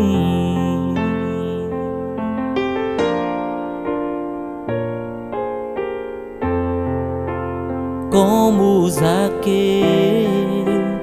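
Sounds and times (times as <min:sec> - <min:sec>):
piano chords and notes: 0:00.0 - 0:11.0.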